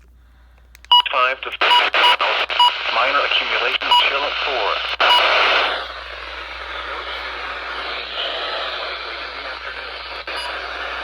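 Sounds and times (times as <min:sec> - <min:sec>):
radio static hiss: 0:00.9 - 0:11.0.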